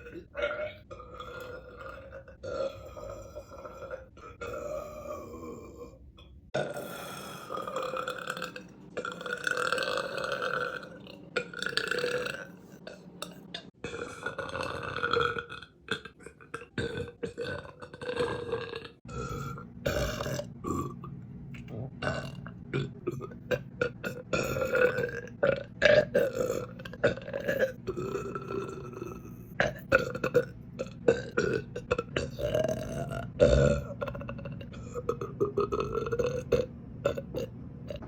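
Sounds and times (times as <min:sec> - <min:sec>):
woman belching: 0:00.0 - 0:06.0, 0:06.6 - 0:21.1, 0:22.0 - 0:38.0.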